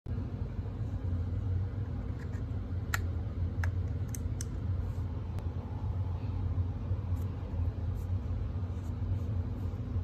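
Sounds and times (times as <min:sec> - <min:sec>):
steady low hum: 0:00.1 - 0:10.0.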